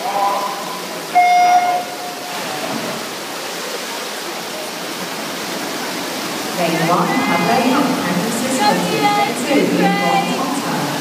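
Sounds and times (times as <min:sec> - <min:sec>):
pool hall noise: 0:00.0 - 0:11.0
water splashing: 0:00.0 - 0:11.0.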